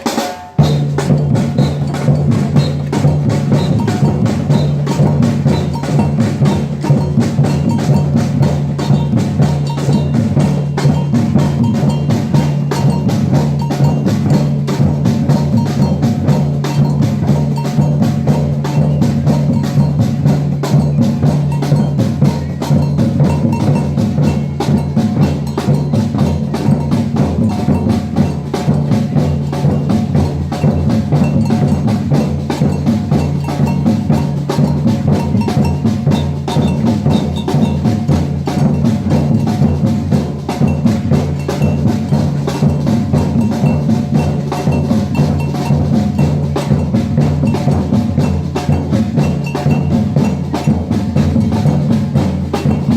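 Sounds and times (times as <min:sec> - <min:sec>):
percussion band drumming: 0:00.0 - 0:52.9.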